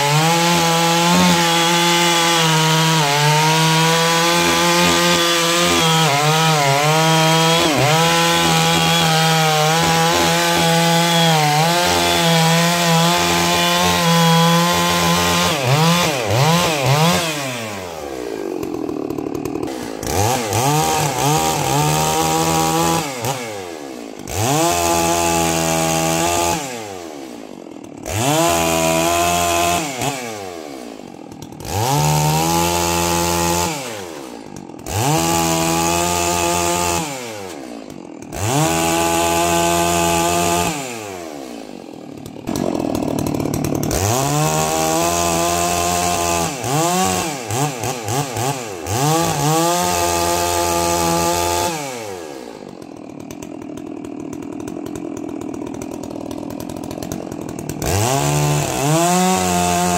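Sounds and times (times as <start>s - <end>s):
chainsaw idling: 0.0s - 59.9s
chainsaw revving and cutting: 0.0s - 59.9s.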